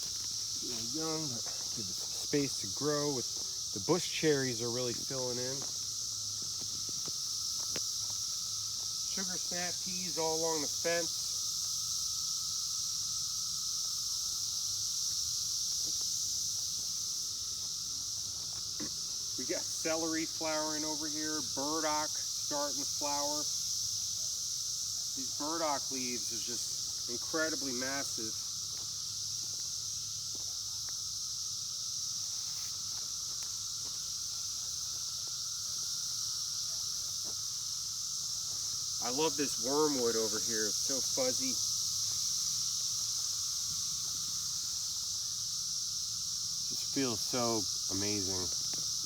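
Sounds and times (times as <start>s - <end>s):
shrill insect chorus: 0.0s - 49.0s.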